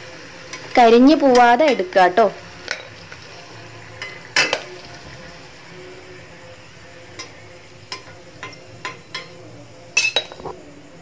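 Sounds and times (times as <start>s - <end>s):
oil sizzling faintly: 0.0s - 11.0s.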